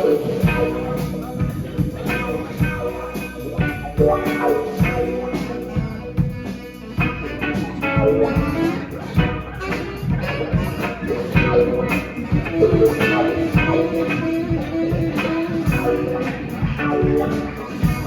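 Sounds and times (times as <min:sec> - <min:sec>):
drums beat: 0:00.0 - 0:18.0
guitar: 0:00.0 - 0:18.0.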